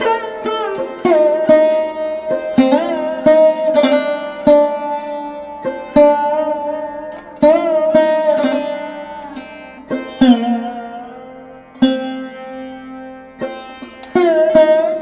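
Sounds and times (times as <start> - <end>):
plucked string instrument notes: 0.0 - 15.0.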